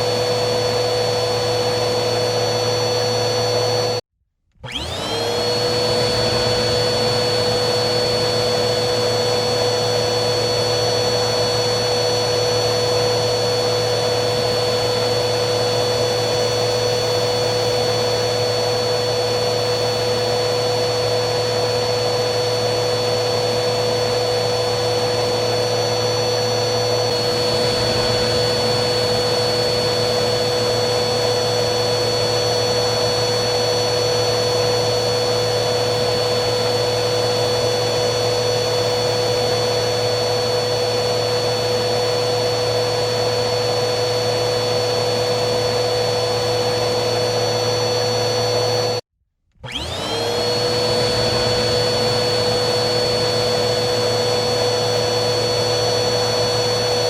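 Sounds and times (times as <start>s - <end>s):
vacuum cleaner motor whining: 0.0s - 57.0s.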